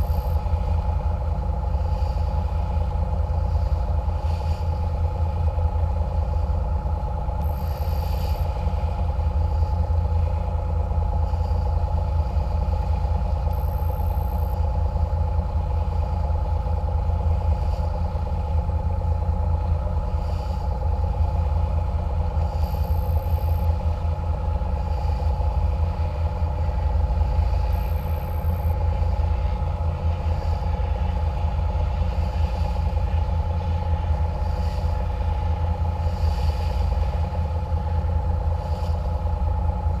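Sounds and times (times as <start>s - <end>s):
boat engines droning: 0.0s - 40.0s
steady hum: 0.0s - 40.0s.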